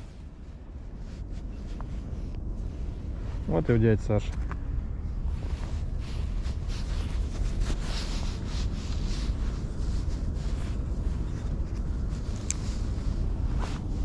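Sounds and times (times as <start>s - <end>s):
faint rustling: 0.0s - 14.0s
wind buffeting microphone: 0.0s - 14.0s.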